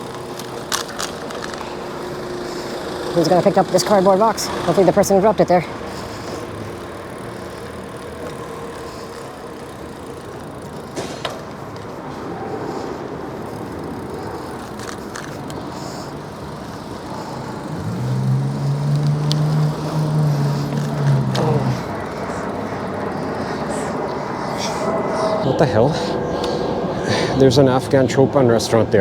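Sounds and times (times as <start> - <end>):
bicycle riding noise: 0.0 - 29.0
motor vehicle engine hum: 0.0 - 29.0
traffic noise: 0.0 - 29.0.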